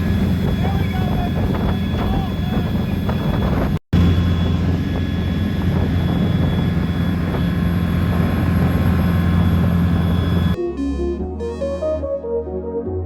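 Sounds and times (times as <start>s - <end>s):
boat diesel engine drone: 0.0s - 12.0s.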